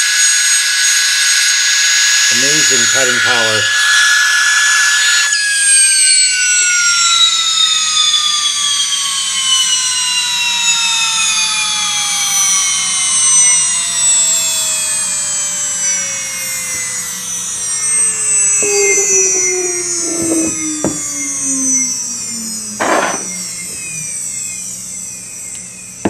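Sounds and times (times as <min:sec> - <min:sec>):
air grinder spinning down: 0:00.0 - 0:26.0.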